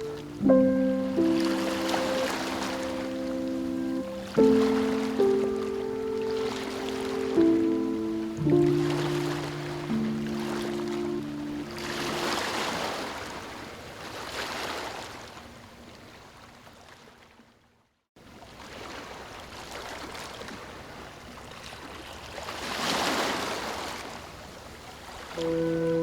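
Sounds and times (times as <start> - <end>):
ocean waves washing onto shore: 0.0 - 15.2, 18.6 - 26.0.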